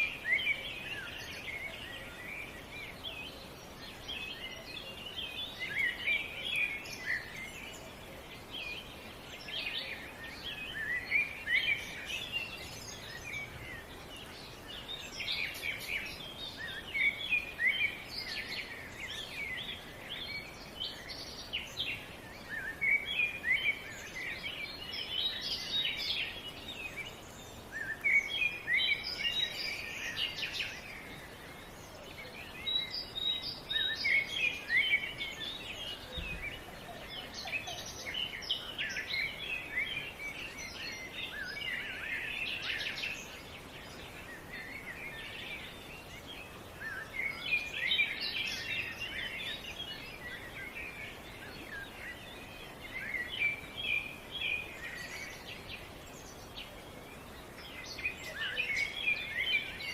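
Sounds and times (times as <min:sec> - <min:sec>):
songbirds chirping: 0:00.0 - 0:59.9
steady background hiss: 0:00.0 - 0:59.9.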